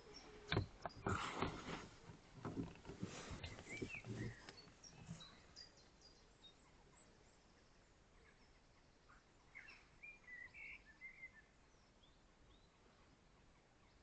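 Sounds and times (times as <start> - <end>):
faint wild birds calling: 0.0 - 14.0.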